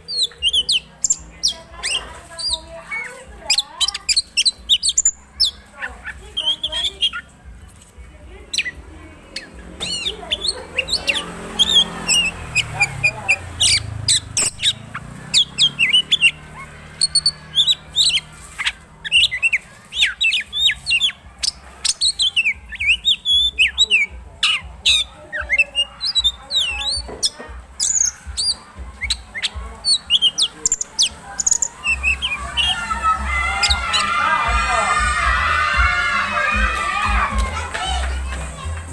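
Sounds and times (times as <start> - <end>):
songbird singing varied song: 0.0 - 7.4, 8.5 - 32.8.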